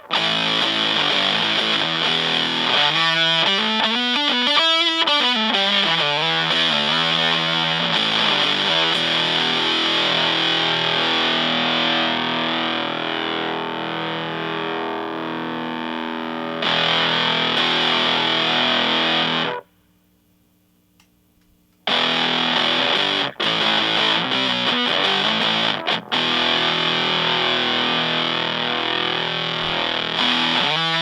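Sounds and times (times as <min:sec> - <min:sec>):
fuzz distorted electric guitar: 0:00.0 - 0:19.7, 0:21.8 - 0:31.0.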